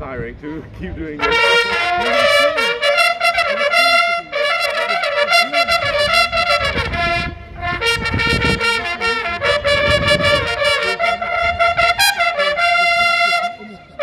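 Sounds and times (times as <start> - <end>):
bugles playing brisk tune: 1.2 - 14.0.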